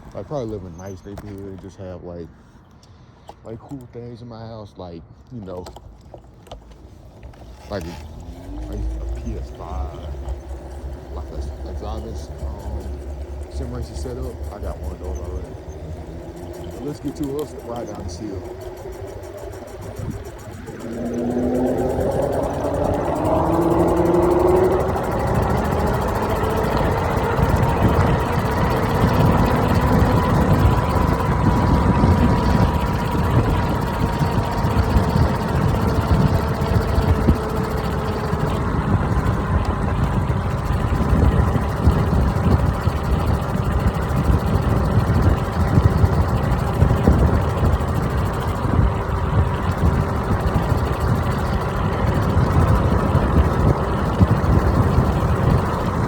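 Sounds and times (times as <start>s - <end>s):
electric scooter motor whining: 0.0s - 4.6s, 5.5s - 56.0s
wind rumble on microphone: 7.4s - 56.0s.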